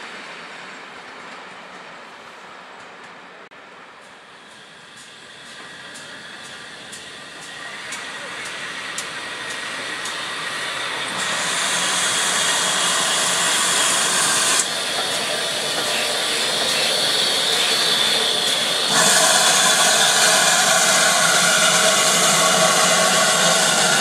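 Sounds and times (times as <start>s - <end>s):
train rolling past: 0.0s - 24.0s
steam hissing: 4.1s - 24.0s.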